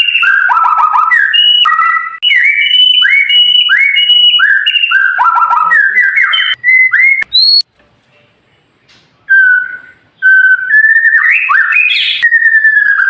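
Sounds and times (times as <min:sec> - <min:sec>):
bird singing whistled phrases: 0:00.0 - 0:07.6, 0:09.3 - 0:13.0.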